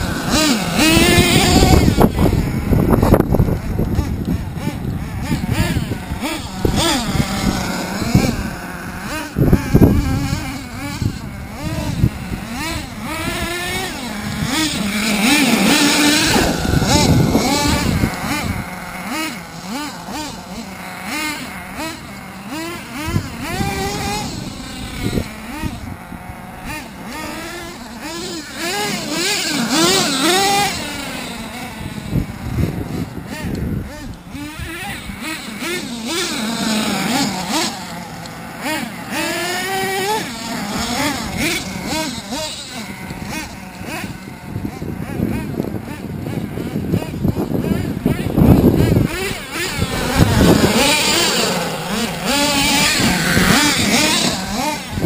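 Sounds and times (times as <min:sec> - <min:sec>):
model truck engines revving: 0:00.0 - 0:55.0.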